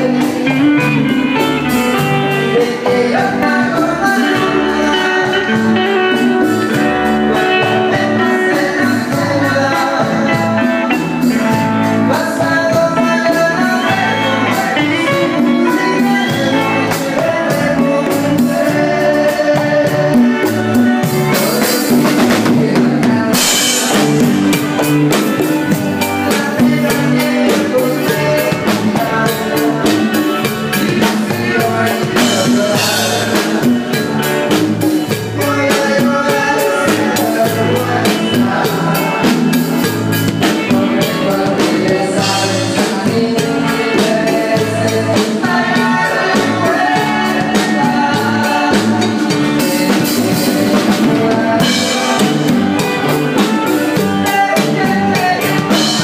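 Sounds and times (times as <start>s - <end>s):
drum kit steady beat: 0.0s - 56.0s
electric guitar: 0.0s - 56.0s.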